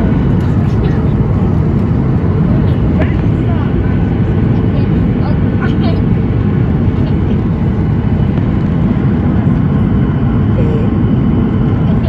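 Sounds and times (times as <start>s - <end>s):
low aircraft cabin roar: 0.0s - 12.0s.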